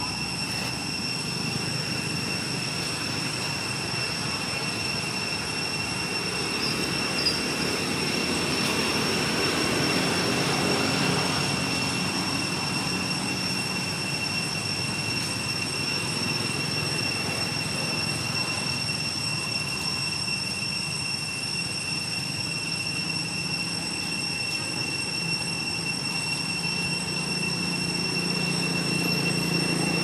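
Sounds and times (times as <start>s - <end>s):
high-pitched whine: 0.0s - 30.0s.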